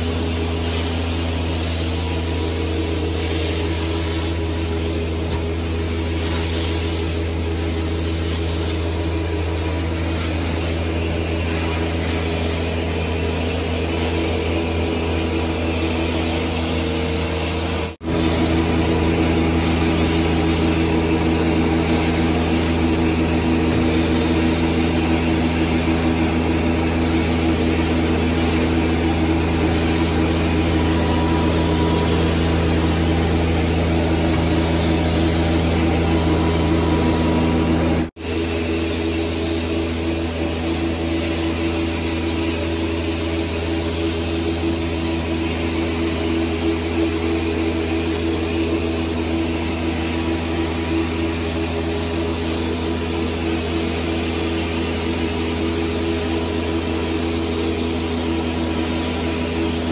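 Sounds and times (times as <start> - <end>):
carpet extraction machine humming: 0.0 - 59.9.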